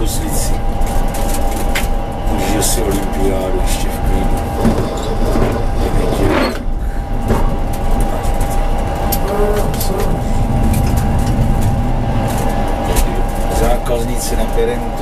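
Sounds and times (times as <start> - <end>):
thin steady whine: 0.0 - 15.0
tram wheels rumbling on rails: 0.0 - 15.0.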